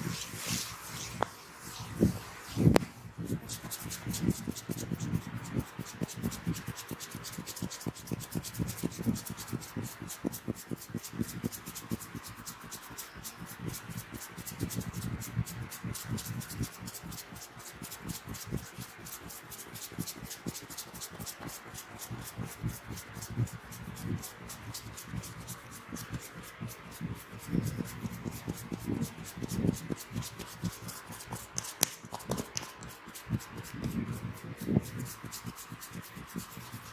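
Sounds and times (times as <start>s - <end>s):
fingers scratching through hair: 0.0s - 36.9s.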